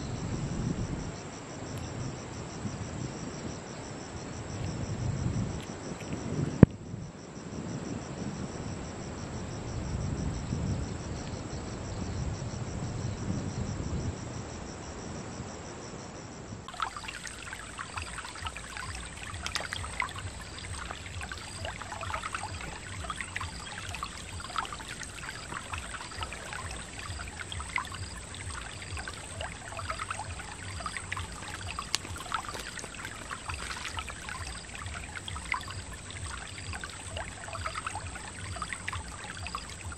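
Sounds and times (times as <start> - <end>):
stream water trickling: 0.0 - 15.6, 16.6 - 39.9
high insect drone: 0.0 - 39.9
insects trilling: 0.0 - 39.9
wind rumbling on microphone: 0.0 - 39.9.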